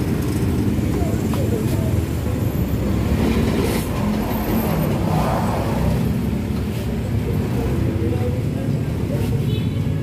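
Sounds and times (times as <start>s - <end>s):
large vehicles passing: 0.0s - 9.4s
low rumble of street traffic: 0.0s - 10.0s.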